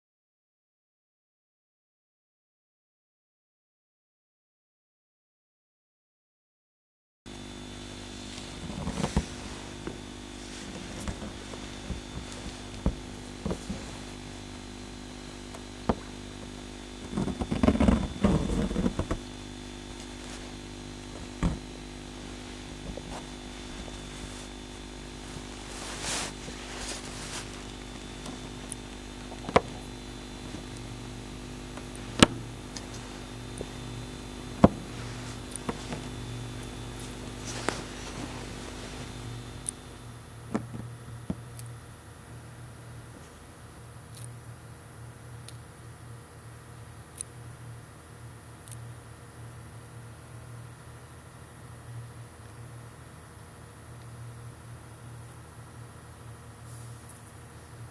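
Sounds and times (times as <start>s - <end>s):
steady low hum: 7.3s - 57.9s.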